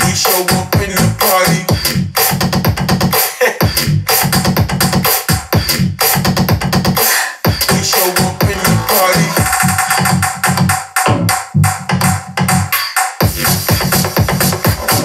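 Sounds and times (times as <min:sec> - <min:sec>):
electronic dance music: 0:00.0 - 0:15.0.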